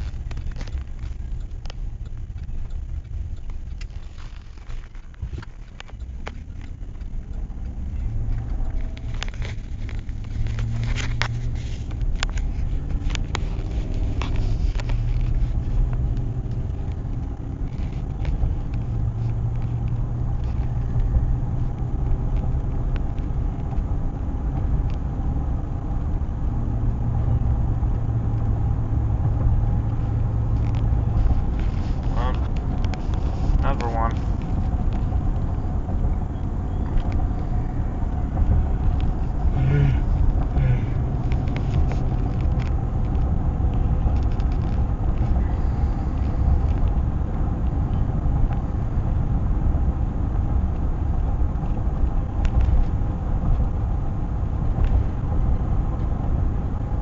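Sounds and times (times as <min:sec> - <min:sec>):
vehicle engine and road rumble: 0:00.0 - 0:57.0.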